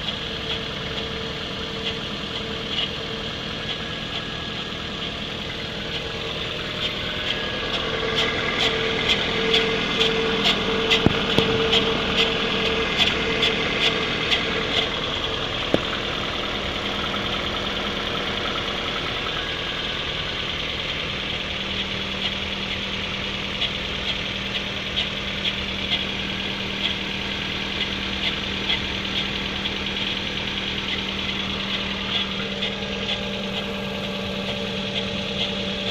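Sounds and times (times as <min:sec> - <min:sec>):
car engine idling: 0:00.0 - 0:35.9
steady low hum: 0:00.0 - 0:35.9.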